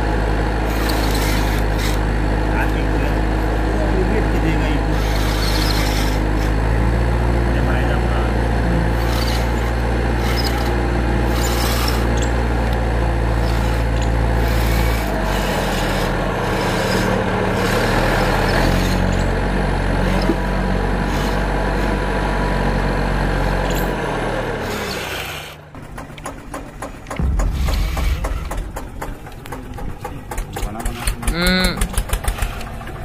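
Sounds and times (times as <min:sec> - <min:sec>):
toy excavator motors humming: 0:00.0 - 0:27.2, 0:30.0 - 0:33.0.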